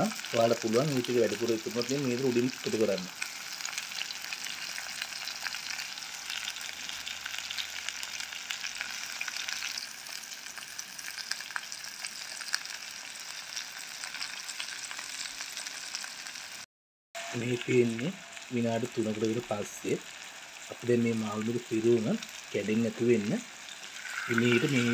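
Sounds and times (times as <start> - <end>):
vegetables sizzling in oil: 0.0 - 24.9.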